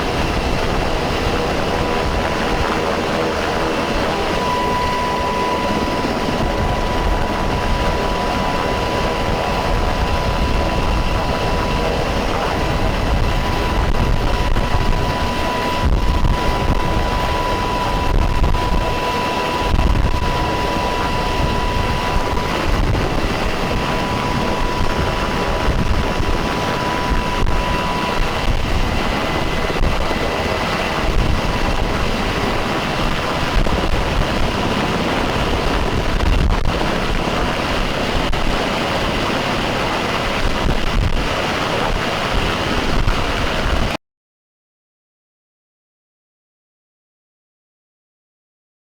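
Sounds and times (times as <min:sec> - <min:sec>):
helicopter rotor and engines: 0:00.0 - 0:44.0
high whine: 0:00.0 - 0:44.0
rotor wash buffeting microphone: 0:00.0 - 0:44.0.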